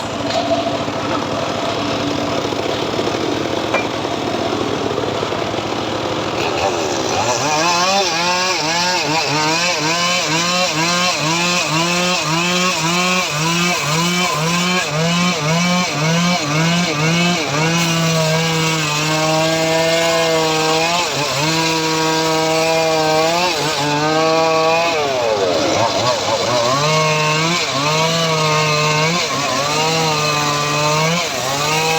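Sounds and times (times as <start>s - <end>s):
small engine saw cutting wood: 0.0s - 31.9s.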